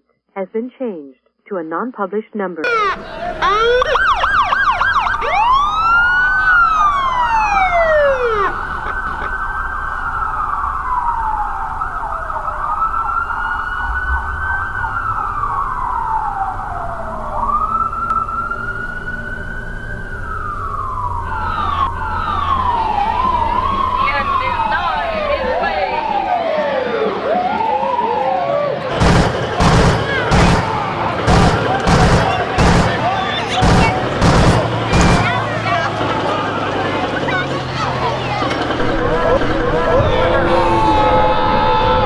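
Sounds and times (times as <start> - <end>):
car siren wailing: 2.6 - 42.0.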